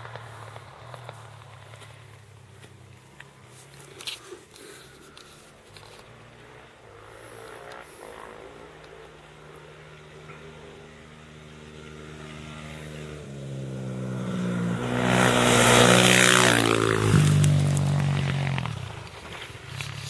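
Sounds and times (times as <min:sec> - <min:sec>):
gravel and tyre noise: 0:00.0 - 0:20.0.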